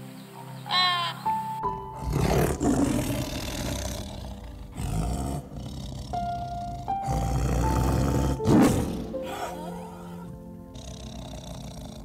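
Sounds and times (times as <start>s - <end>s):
background music: 0.0s - 12.0s
animal roaring: 2.0s - 12.0s.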